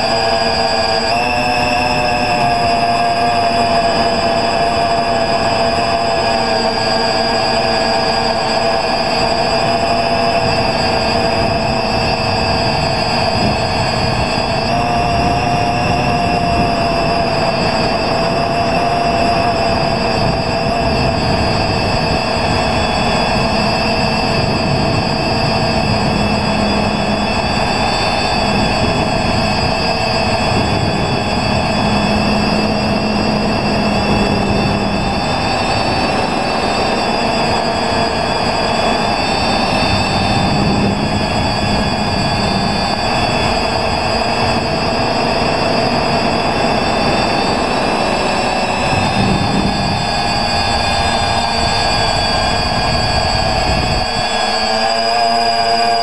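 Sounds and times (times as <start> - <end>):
drone motors whining: 0.0 - 56.0
wind on microphone: 0.0 - 56.0.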